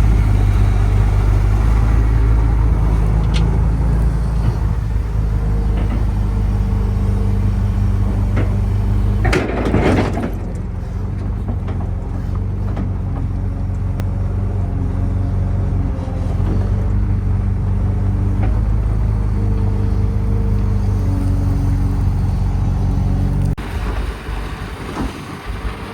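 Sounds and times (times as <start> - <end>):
diesel excavator engine running: 0.0 - 25.9.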